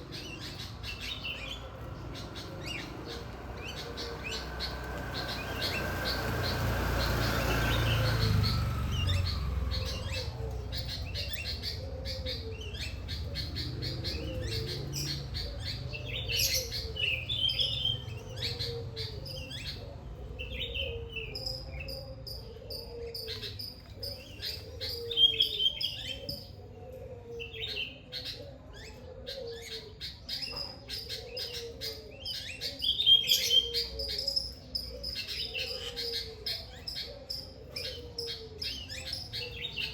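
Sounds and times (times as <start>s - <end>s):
low repeated bird call: 0.0s - 39.9s
songbirds chirping: 0.0s - 39.9s.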